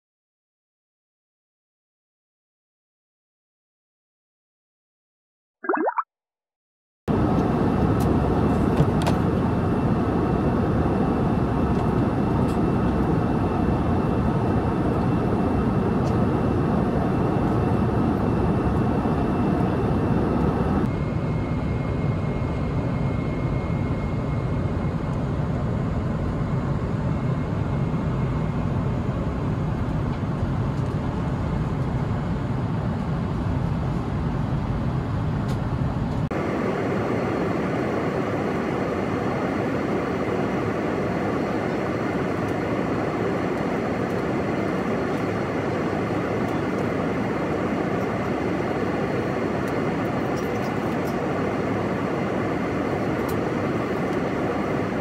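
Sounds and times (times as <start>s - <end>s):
airliner cabin drone: 7.1s - 55.0s.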